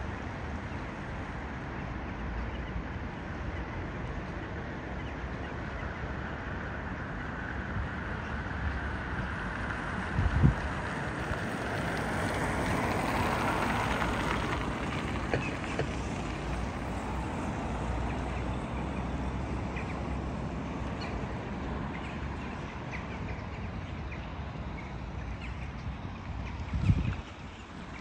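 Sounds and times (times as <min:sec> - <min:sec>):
steady outdoor noise: 0:00.0 - 0:28.0.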